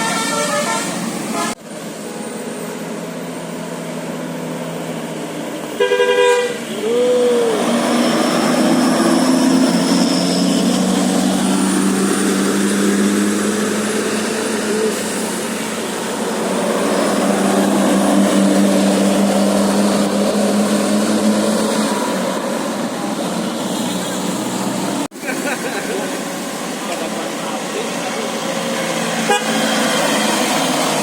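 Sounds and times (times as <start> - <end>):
bus engine running: 0.0 - 31.0
road traffic noise: 0.0 - 31.0.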